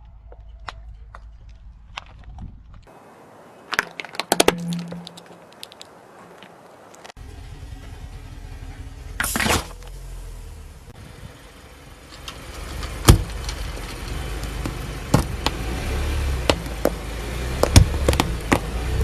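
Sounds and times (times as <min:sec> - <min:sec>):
things cracking under tyres: 0:00.0 - 0:10.2, 0:10.9 - 0:19.0
car rumbling slowly: 0:00.0 - 0:19.0.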